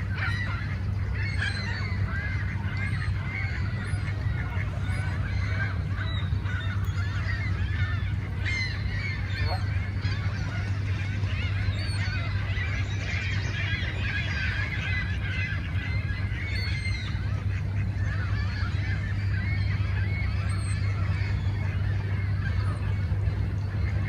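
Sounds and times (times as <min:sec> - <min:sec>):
birds honking: 0:00.0 - 0:24.0
steady low rumble: 0:00.0 - 0:24.0.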